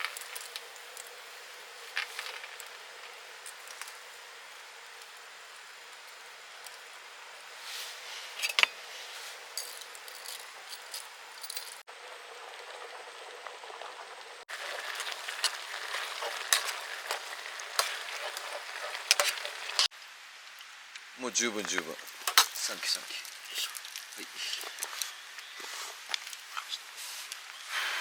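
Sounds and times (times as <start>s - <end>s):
food sizzling with pops: 0.0s - 8.8s, 9.4s - 27.7s.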